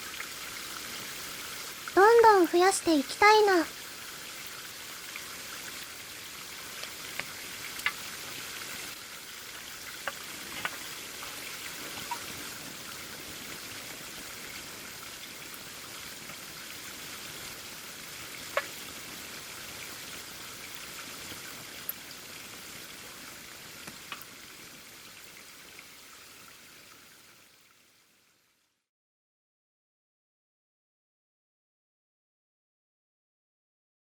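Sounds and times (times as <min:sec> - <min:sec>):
campfire hissing and crackling: 0:00.0 - 0:28.2.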